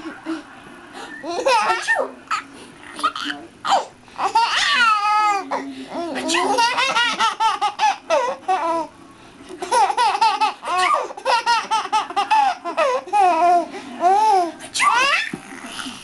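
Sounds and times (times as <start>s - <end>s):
baby laughing: 1.2s - 8.9s, 9.6s - 16.0s.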